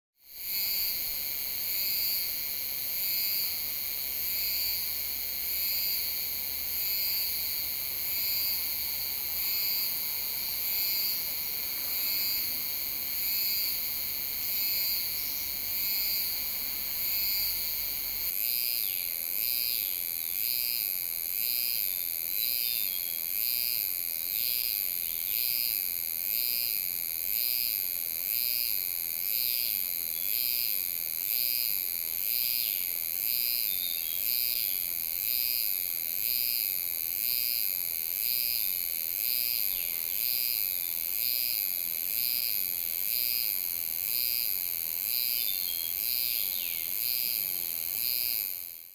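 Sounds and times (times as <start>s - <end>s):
cicada singing high-pitched pulses: 0.2s - 48.9s.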